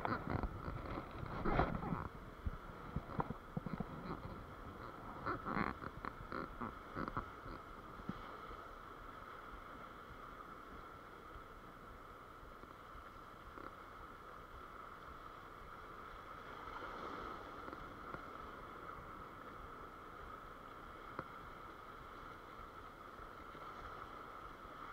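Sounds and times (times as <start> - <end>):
surf washing over rocks: 0.0 - 24.9.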